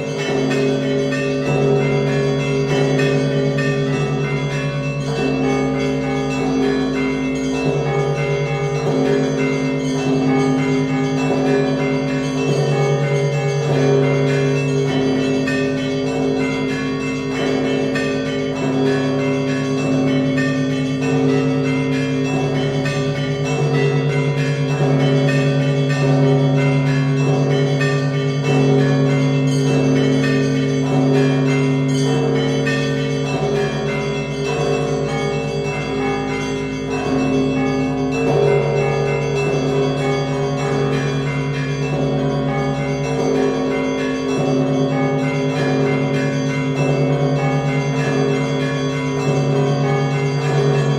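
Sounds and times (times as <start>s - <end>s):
low heavy bells tolling: 0.0s - 50.9s
small bells chiming rapidly: 0.0s - 50.9s.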